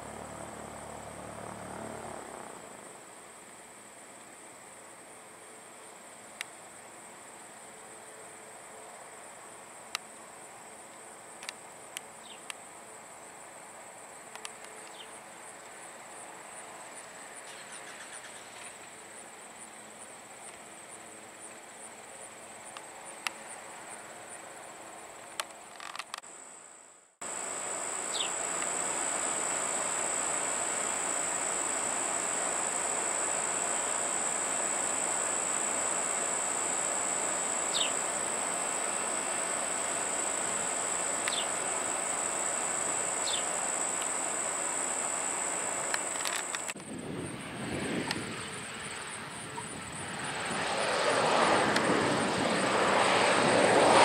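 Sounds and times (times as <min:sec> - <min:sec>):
background hiss: 0:00.0 - 0:46.8
insects buzzing: 0:00.0 - 0:54.0.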